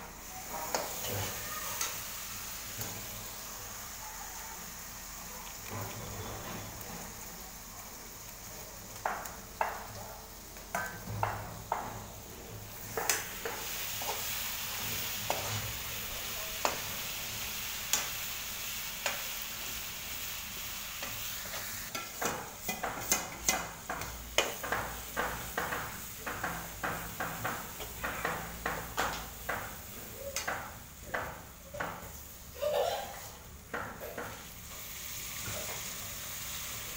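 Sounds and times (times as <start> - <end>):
onions sizzling in hot oil: 0.0 - 36.9.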